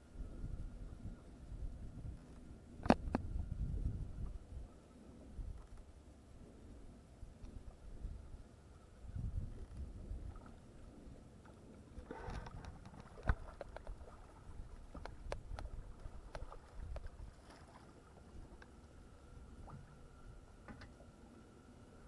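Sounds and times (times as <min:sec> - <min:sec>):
low rumble of wind and water: 0:00.0 - 0:22.0.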